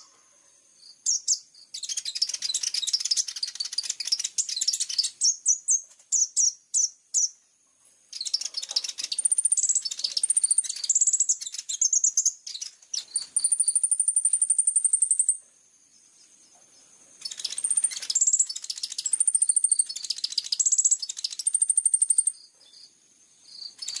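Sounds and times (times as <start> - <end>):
songbird trills and chips: 0.0 - 7.4, 8.1 - 24.0.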